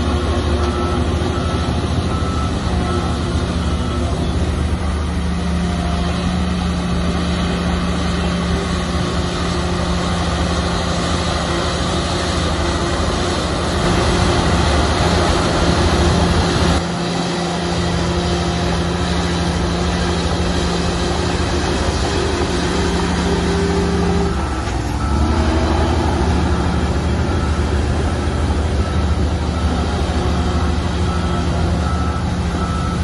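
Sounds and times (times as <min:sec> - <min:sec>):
diesel earthmoving machinery: 0:00.0 - 0:33.0.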